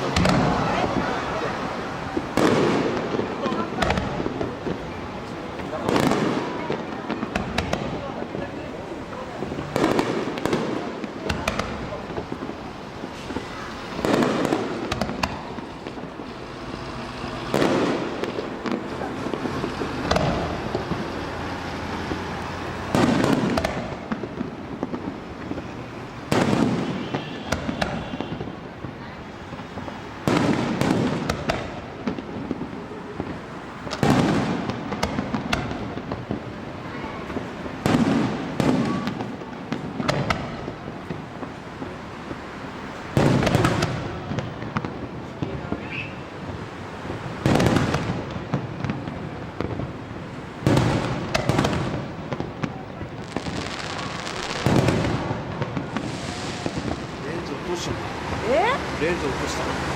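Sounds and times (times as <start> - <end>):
fireworks booming overhead: 0.0 - 59.9.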